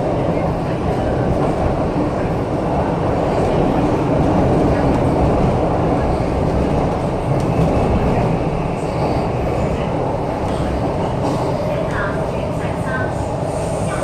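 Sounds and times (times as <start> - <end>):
metro train running noise: 0.0 - 14.0.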